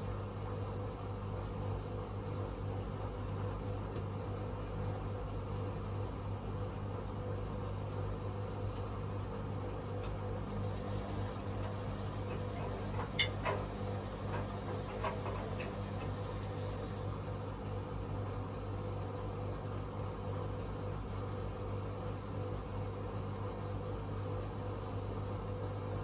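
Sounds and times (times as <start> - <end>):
washing machine spin motor hum: 0.0 - 26.0.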